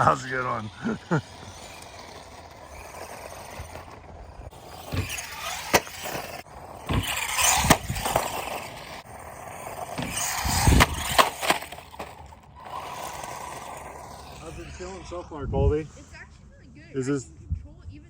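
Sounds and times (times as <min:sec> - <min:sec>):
rc truck running: 0:00.0 - 0:16.3
tyres and chassis rattling: 0:00.0 - 0:16.4.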